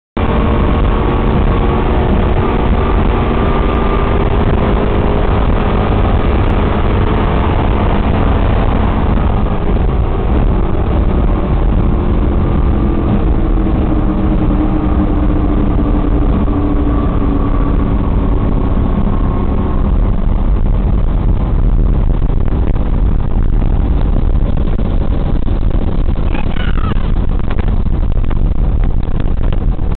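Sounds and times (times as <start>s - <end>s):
boat engines running hard: 0.2s - 29.9s.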